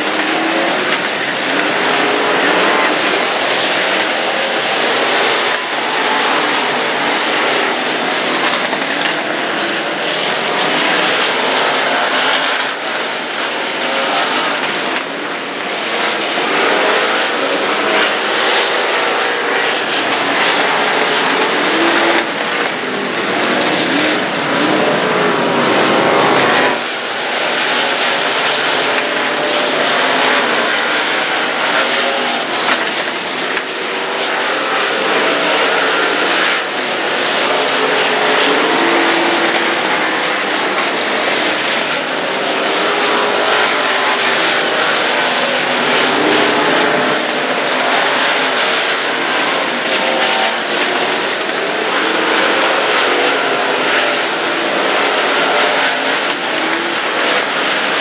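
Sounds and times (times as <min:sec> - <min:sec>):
race car engines roaring: 0:00.0 - 0:58.0.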